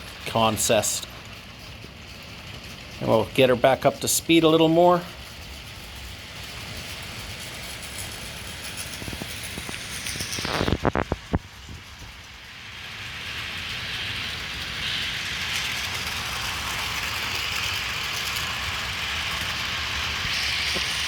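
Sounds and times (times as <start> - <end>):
model train rolling on track: 0.0 - 21.0.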